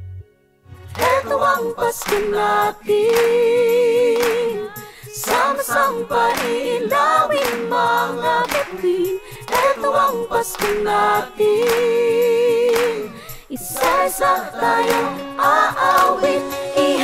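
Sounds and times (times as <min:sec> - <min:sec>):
group singing christmas song: 0:00.8 - 0:17.0.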